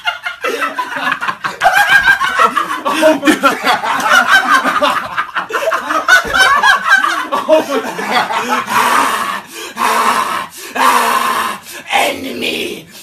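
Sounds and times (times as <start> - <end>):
men laughing hysterically: 0.0 - 11.6.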